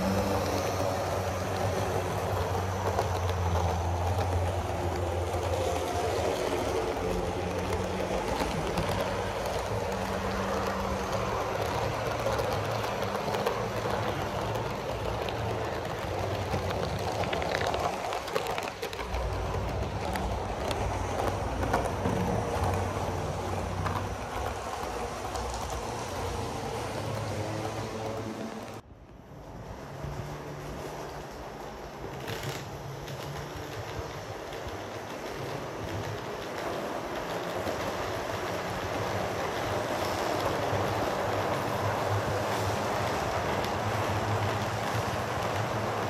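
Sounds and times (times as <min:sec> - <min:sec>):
wheels clicking over rails: 0:00.0 - 0:46.0.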